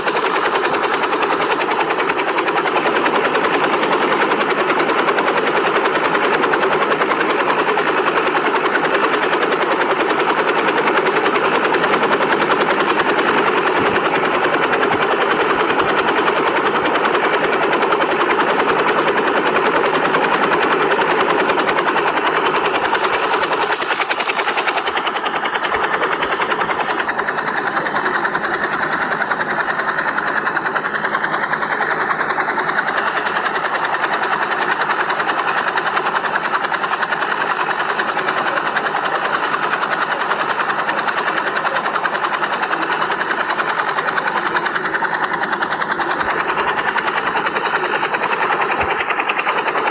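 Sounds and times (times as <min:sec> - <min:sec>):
helicopter rotor chopping: 0:00.0 - 0:49.9.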